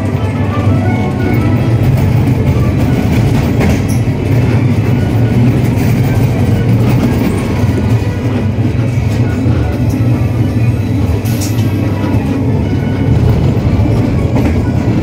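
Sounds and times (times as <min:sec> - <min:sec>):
ride car rolling along track: 0:00.0 - 0:15.0.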